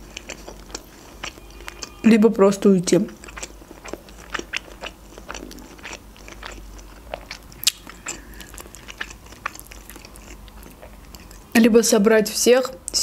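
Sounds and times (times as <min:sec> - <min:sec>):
wet chewing clicks and smacks: 0:00.0 - 0:02.0, 0:02.9 - 0:11.5.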